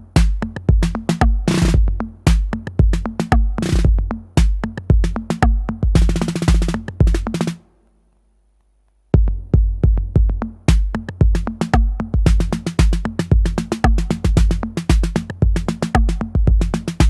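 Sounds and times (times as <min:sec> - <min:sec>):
drum machine electro beat: 0:00.0 - 0:07.6, 0:09.2 - 0:17.0
fast high percussion: 0:00.0 - 0:07.6, 0:10.2 - 0:17.0
deep booming kick drum: 0:00.1 - 0:07.3, 0:09.2 - 0:17.0.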